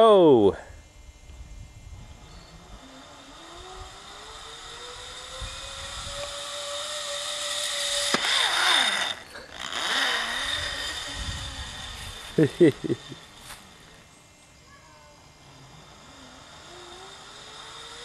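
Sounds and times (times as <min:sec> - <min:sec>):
zipline pulley whirring whine: 0:00.0 - 0:18.0.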